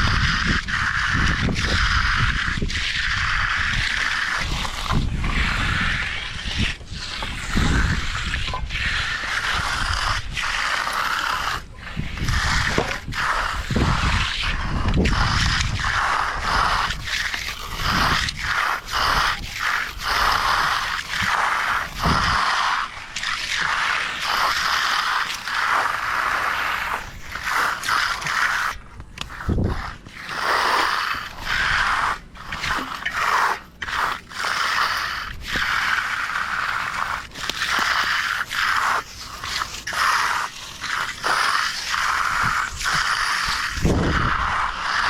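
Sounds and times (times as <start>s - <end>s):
hand tool scraping concrete: 0.0s - 45.0s.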